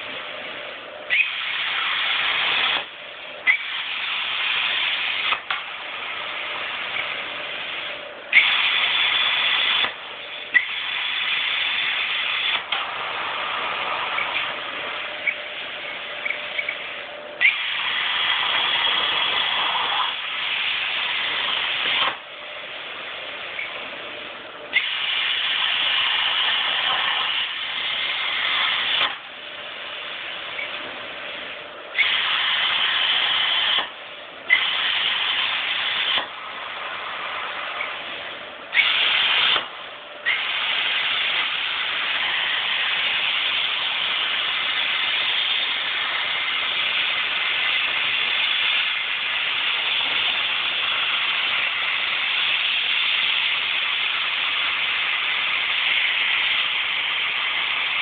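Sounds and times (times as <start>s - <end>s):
plasma torch cutting steel: 1.0s - 23.9s, 24.7s - 58.0s.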